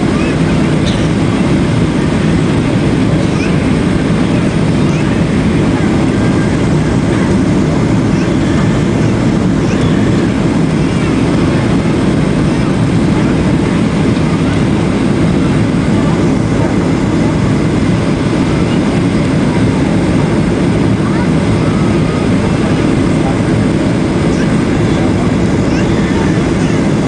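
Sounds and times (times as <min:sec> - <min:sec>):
air rushing along fuselage: 0:00.0 - 0:27.0
jet engine hum in cabin: 0:00.0 - 0:27.0.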